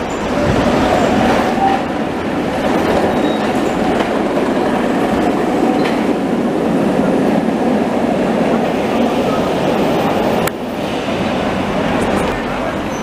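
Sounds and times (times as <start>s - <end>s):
streetcar wheels rumbling on rails: 0.0s - 13.0s.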